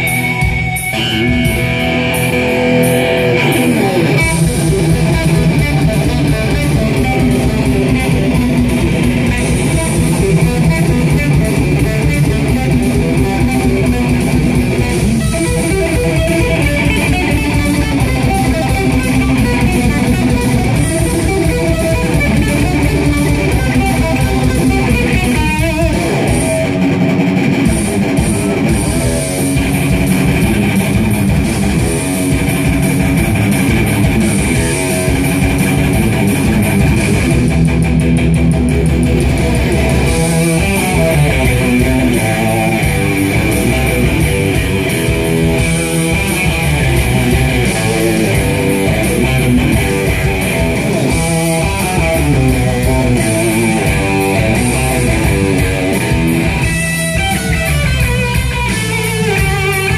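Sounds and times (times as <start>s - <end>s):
electric guitar rock playing: 0.0s - 59.9s.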